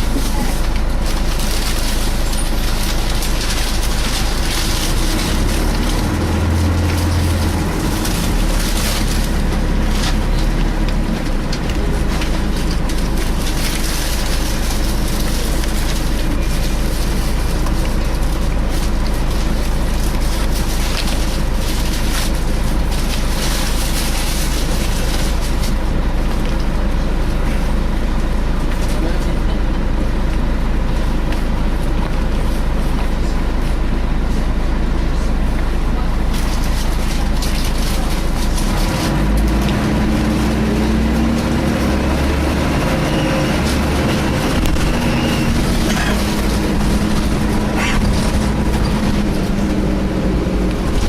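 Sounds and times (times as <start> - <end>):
bus engine and road noise: 0.0 - 51.0.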